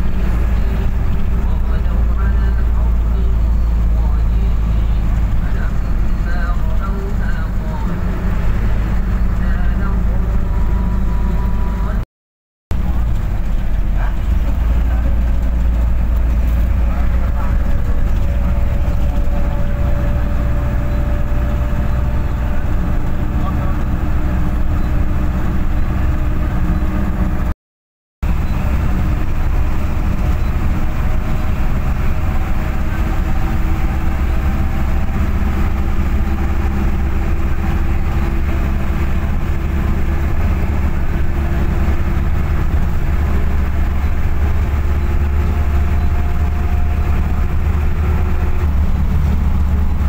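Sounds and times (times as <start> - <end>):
faint engine tones: 0.0 - 12.0, 12.7 - 27.5, 28.2 - 50.0
vehicle cabin road rumble: 0.0 - 12.1, 12.7 - 27.6, 28.2 - 50.0.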